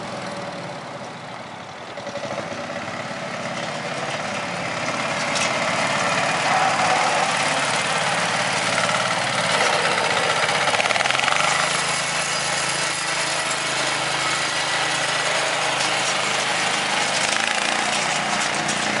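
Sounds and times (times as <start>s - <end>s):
walking tractor engine running: 0.0s - 19.0s.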